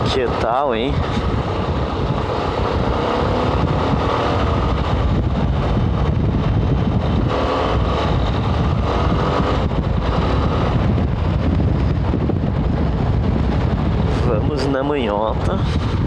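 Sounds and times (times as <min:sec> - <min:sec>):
motorcycle engine cruising: 0:00.0 - 0:16.0
wind rumble on microphone: 0:00.0 - 0:16.0.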